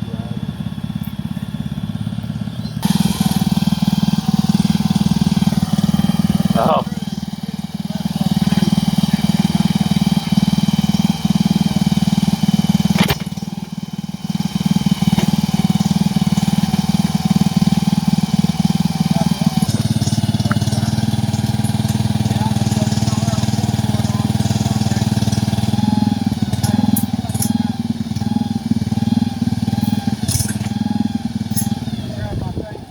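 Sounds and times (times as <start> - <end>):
engine running under load: 0.0 - 32.9.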